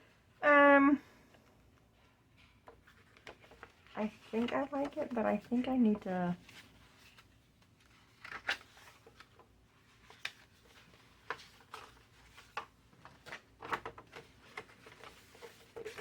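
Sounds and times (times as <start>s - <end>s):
paper pages rustling: 2.7s - 16.0s.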